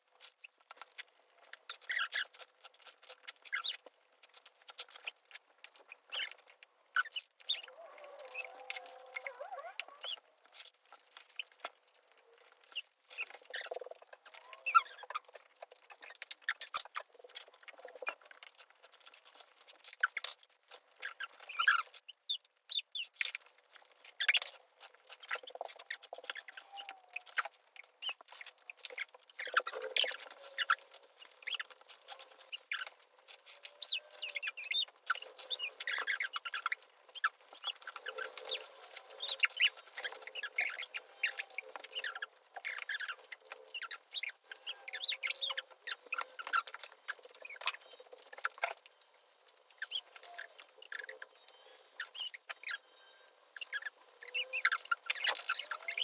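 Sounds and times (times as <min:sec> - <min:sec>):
faint squeaky sounds: 0:00.0 - 0:56.0.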